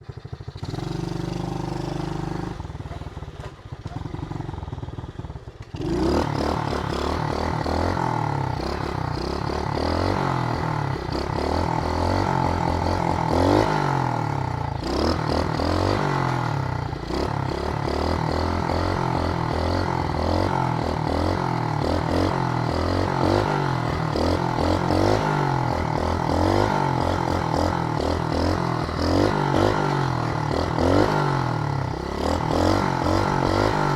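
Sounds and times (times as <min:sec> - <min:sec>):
pit bike engine revving: 0:05.8 - 0:33.9.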